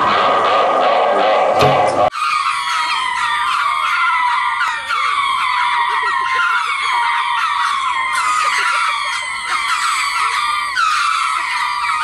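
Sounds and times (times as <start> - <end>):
lemurs calling in chorus: 0.0 - 12.0.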